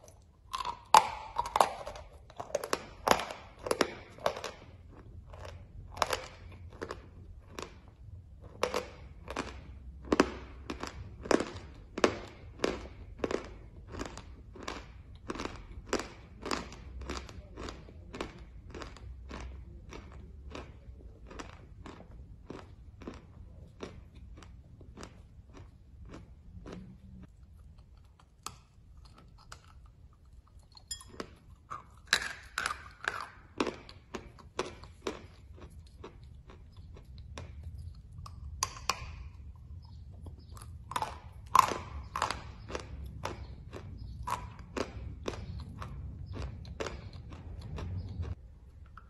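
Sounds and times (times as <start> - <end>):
person chewing crunchy chalk: 0.0 - 49.0.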